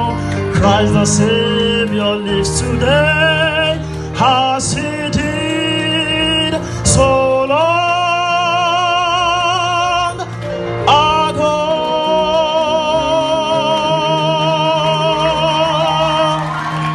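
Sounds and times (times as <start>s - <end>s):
musical accompaniment: 0.0s - 16.9s
person singing with vibrato: 0.0s - 16.9s.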